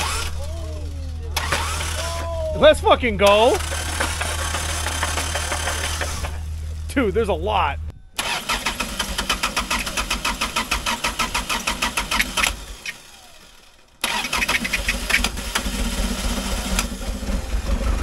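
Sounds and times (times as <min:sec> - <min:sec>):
engine cranked by starter: 0:00.0 - 0:07.0, 0:08.2 - 0:18.0
engine running unevenly: 0:00.0 - 0:18.0.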